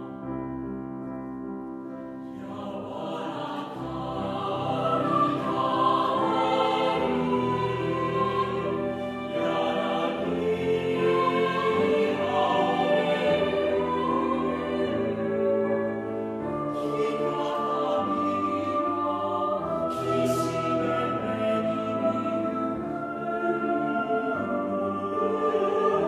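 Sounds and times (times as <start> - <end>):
slow orchestral music with choir: 0.0 - 26.0.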